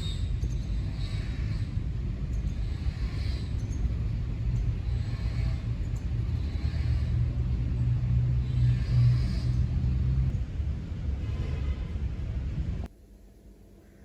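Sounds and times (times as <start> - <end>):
road noise: 0.0 - 12.9
wind rumble: 0.0 - 12.9.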